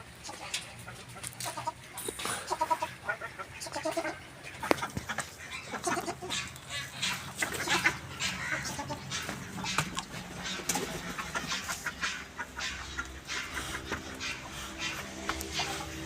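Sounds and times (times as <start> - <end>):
low steady hum: 0.0 - 16.0
poultry clucking and squawking: 0.0 - 16.0.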